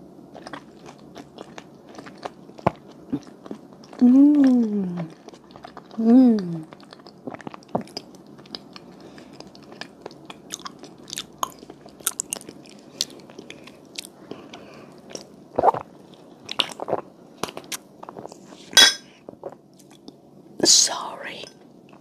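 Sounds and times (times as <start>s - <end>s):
person chewing with wet clicks: 0.3s - 18.4s, 19.3s - 20.2s.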